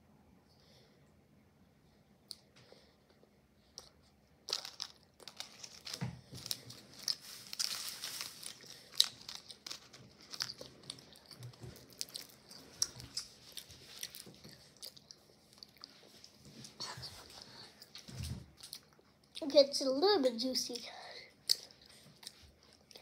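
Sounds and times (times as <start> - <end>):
child chewing candy: 2.2 - 19.8, 20.7 - 23.0.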